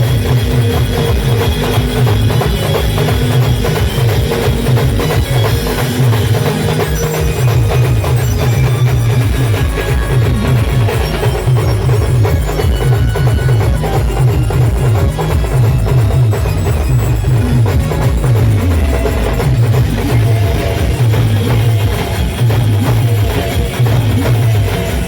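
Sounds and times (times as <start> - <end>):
band music: 0.0 - 25.0
loud fast drums: 0.0 - 25.0.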